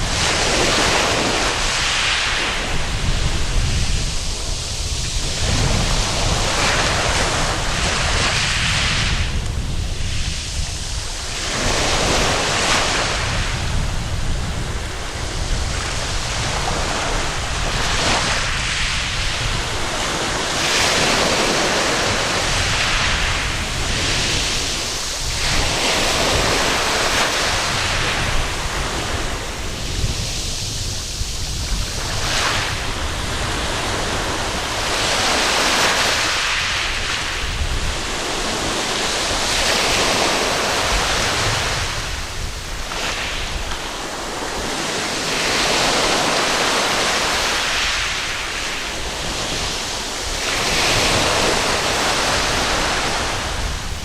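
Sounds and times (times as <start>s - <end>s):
waves breaking on a beach: 0.0s - 54.0s
wind buffeting the microphone: 0.0s - 54.0s.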